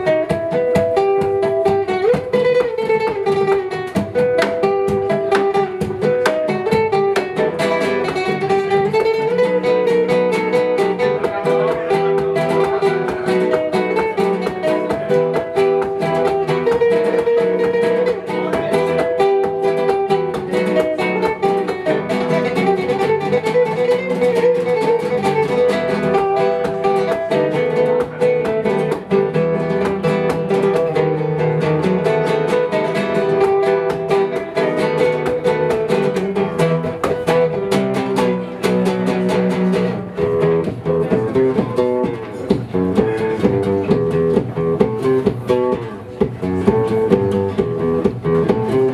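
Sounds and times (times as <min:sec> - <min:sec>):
acoustic guitar picking: 0:00.0 - 0:48.9.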